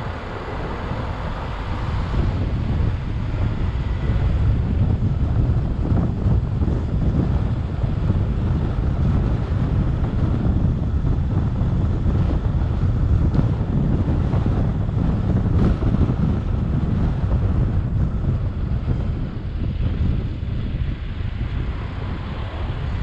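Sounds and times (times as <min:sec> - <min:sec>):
car road noise: 0:00.0 - 0:23.0
wind buffeting microphone: 0:00.0 - 0:23.0.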